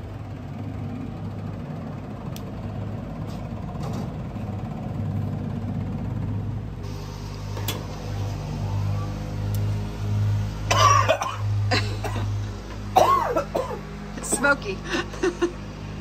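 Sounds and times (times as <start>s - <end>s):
grill humming: 0.0s - 16.0s.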